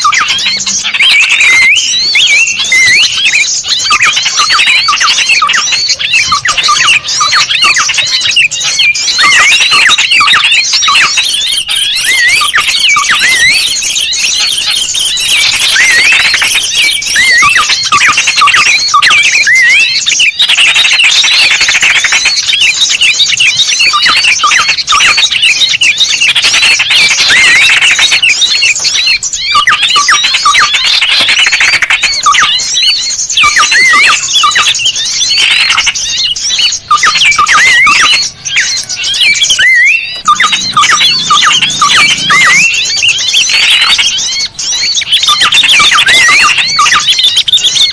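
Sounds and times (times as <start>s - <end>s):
high twittering: 0.0s - 47.9s
small birds whistled chirps: 0.0s - 47.9s.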